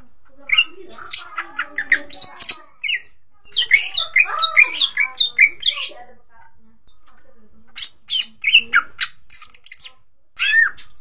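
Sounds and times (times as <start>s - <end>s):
bird chattering song: 0.0s - 11.0s.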